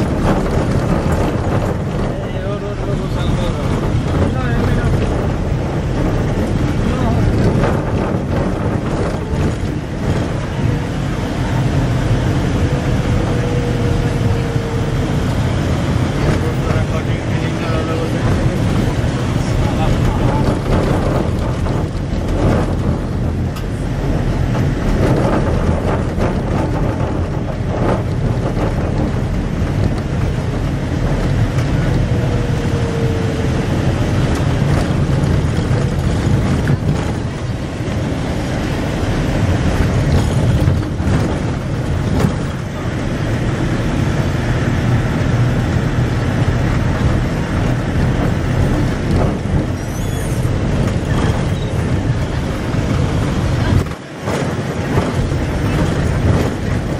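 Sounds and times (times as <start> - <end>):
vehicle engine and road noise: 0.0 - 56.9.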